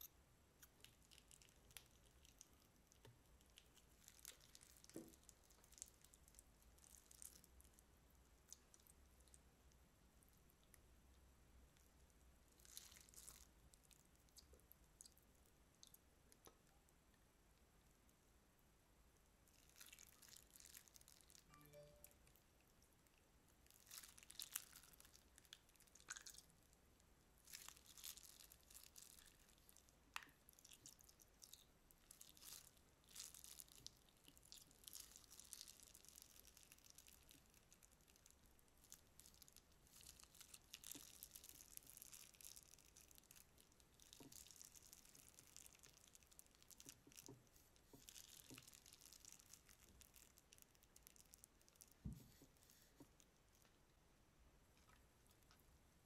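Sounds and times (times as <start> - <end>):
slime squishing and crackling: 0.0 - 9.5, 11.8 - 16.7, 19.4 - 26.8, 27.4 - 53.7.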